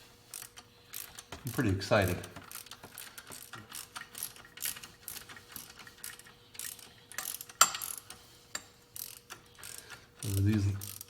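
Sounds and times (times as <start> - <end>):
ratchet wrench clicking: 0.3 - 11.0.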